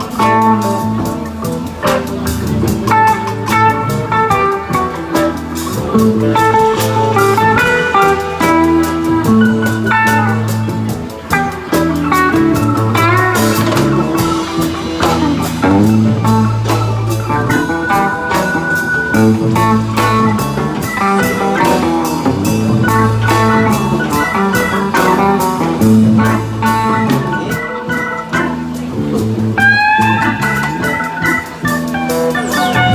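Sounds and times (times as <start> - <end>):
electric lead guitar: 0.0 - 32.9
live blues-rock band: 0.0 - 32.9.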